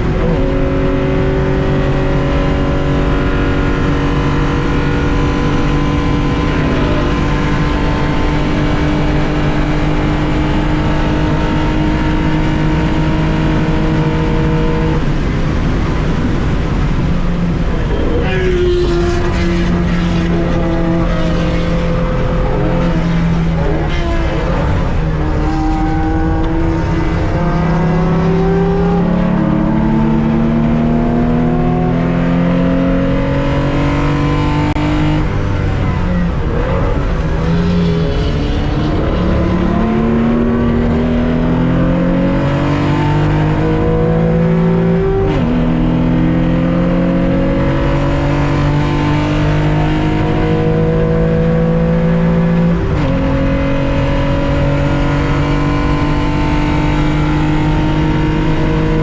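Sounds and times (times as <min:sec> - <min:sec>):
car engine at racing speed: 0:00.0 - 0:59.0.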